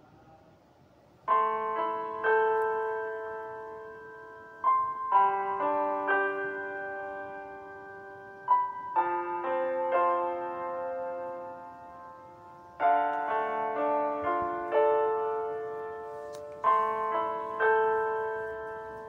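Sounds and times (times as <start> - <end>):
slow piano piece: 1.2 - 19.0.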